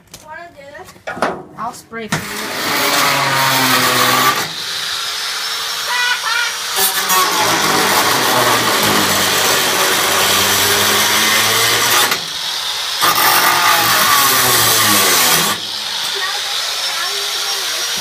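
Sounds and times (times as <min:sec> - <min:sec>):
angle grinder cutting metal: 0:02.1 - 0:18.0.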